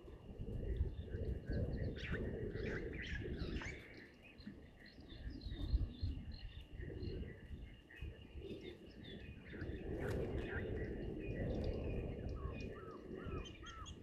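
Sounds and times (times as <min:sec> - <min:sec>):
birds chirping and calling: 0:00.7 - 0:14.0.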